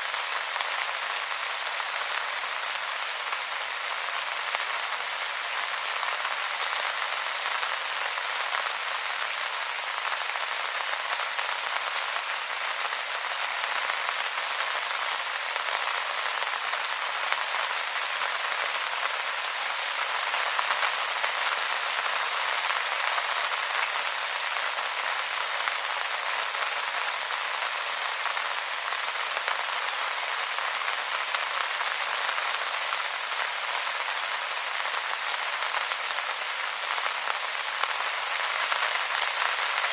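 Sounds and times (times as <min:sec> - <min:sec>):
rain on wet leaves: 0:00.0 - 0:39.9.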